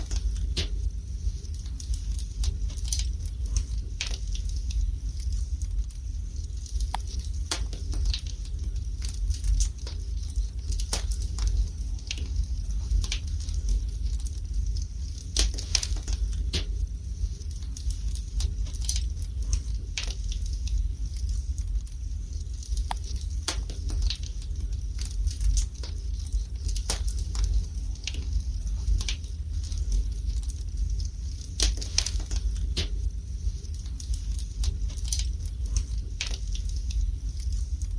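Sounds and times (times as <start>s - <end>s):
wood fire crackling and popping: 0.0s - 37.9s.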